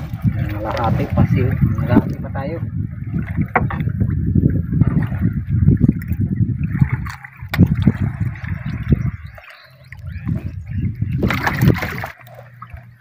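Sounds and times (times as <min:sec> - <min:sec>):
water splash: 0:00.0 - 0:02.3, 0:03.0 - 0:13.0
water lapping against boat: 0:00.0 - 0:13.0.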